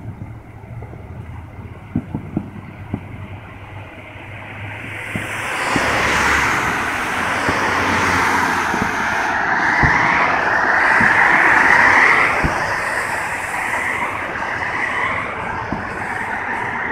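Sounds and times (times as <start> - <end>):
distant fireworks thumps: 0.0 - 16.9
road traffic passing: 0.0 - 16.9.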